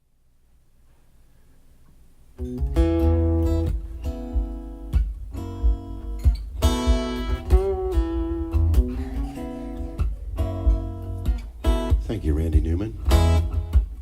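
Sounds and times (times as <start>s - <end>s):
acoustic guitar chords: 2.4s - 14.0s
deep bass line: 2.4s - 14.0s.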